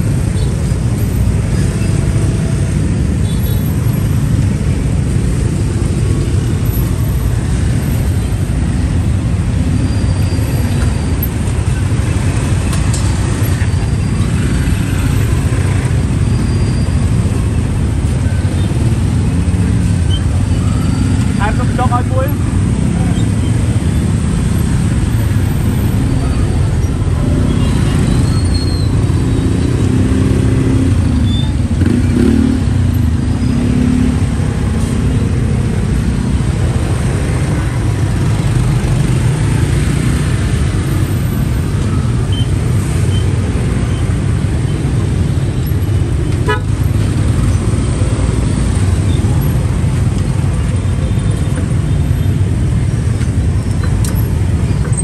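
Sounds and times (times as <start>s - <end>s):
traffic engines rumbling: 0.0s - 55.0s.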